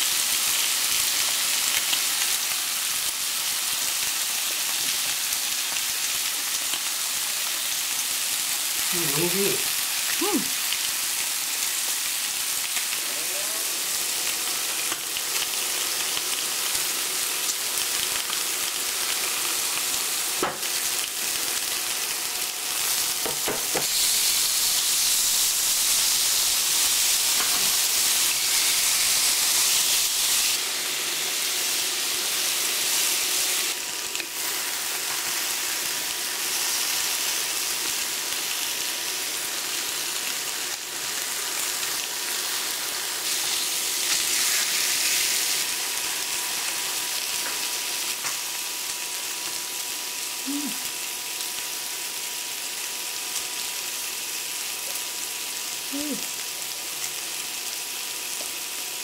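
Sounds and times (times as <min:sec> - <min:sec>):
meat sizzling on grill plate: 0:00.0 - 0:59.0.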